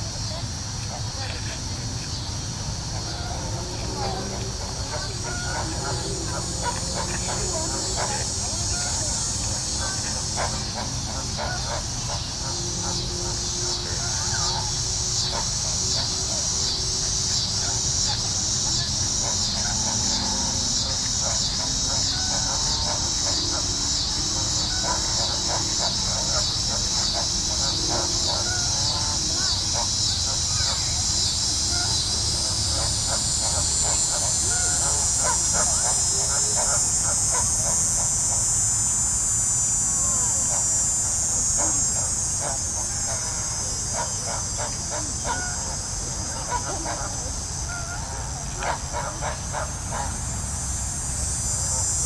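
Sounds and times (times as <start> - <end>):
crickets chirping: 0.0 - 52.0
insects buzzing: 0.0 - 52.0
distant short calls: 2.1 - 50.1.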